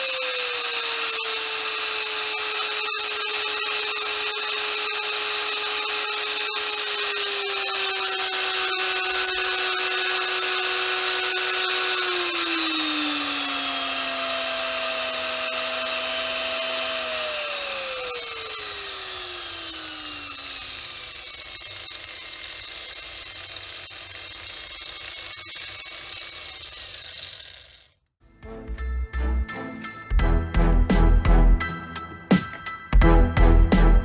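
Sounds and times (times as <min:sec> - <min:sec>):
electric drill motor whine: 0:00.0 - 0:28.0.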